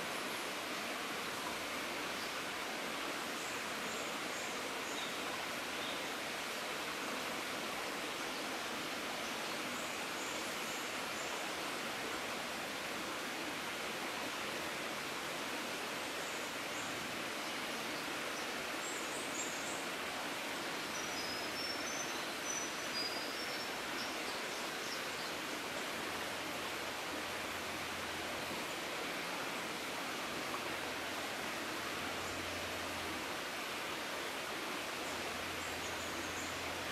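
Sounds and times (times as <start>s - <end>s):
rainforest rushing hiss: 0.0s - 36.9s.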